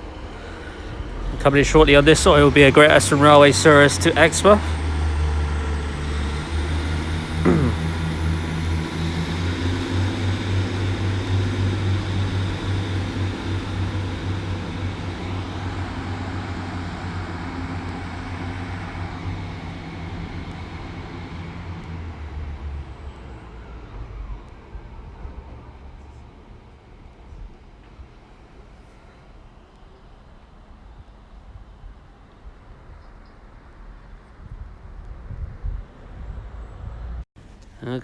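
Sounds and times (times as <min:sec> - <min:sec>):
faint high whine: 0:00.0 - 0:33.4
train diesel engines droning: 0:00.0 - 0:34.2.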